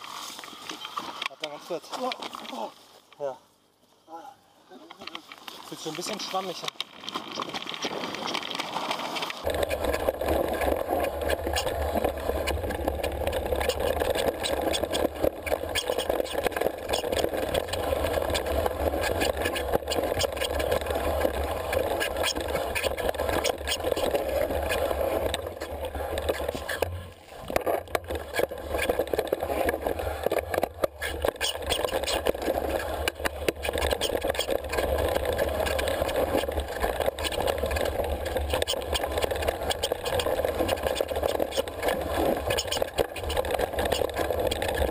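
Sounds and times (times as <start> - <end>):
bike tyre noise on trail: 0.0 - 3.3, 4.8 - 44.9
bike rattling: 4.9 - 44.9.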